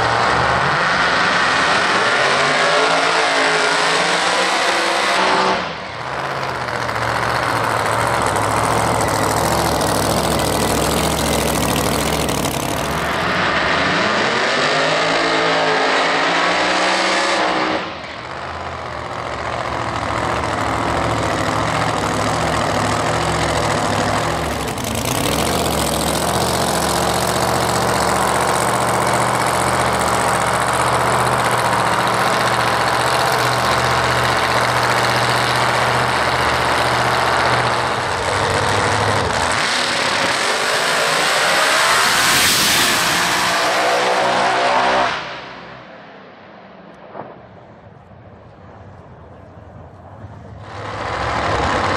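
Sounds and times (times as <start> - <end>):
drag car engine at high revs: 0.0 - 45.6, 50.4 - 51.9.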